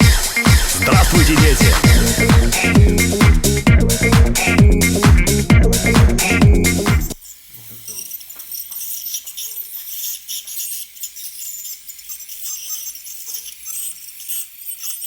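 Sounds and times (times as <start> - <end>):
dental scaler scratching teeth: 0.0 - 3.2, 5.8 - 15.0.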